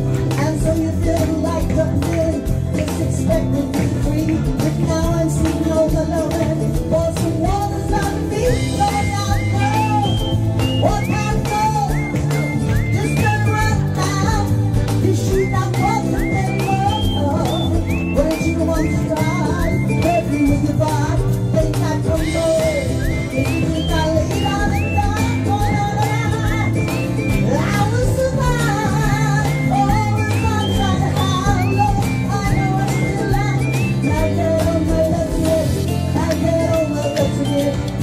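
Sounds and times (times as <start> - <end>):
person singing into a microphone: 0.0 - 38.0
pop-rock backing track: 0.0 - 38.0.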